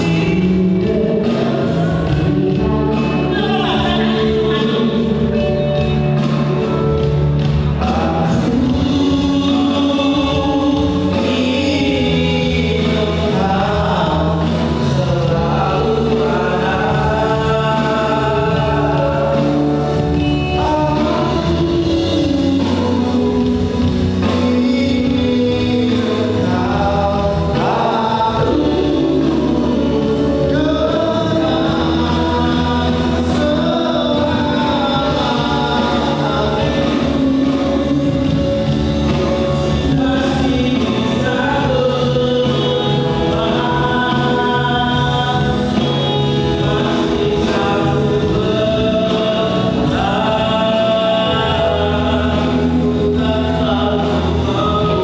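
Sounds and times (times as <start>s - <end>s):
men singing into microphones: 0.0s - 55.0s
music with low bass notes: 0.0s - 55.0s.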